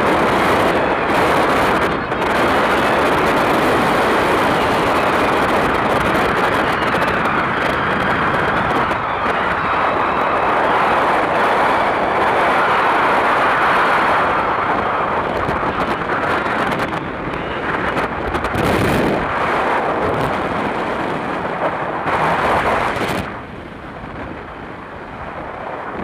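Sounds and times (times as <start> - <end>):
vehicle road noise: 0.0 - 26.0
wind on microphone: 0.0 - 26.0.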